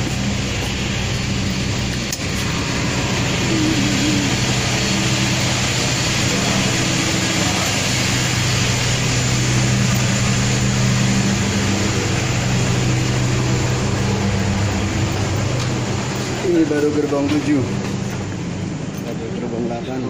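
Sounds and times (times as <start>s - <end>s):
train machinery humming: 0.0s - 20.0s.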